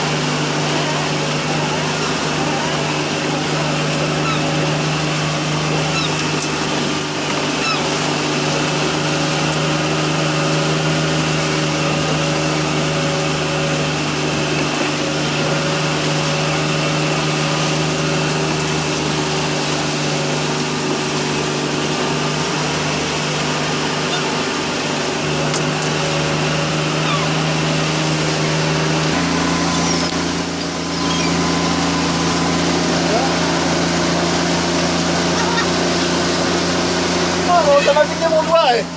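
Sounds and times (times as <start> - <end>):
motor humming: 0.0 - 38.9.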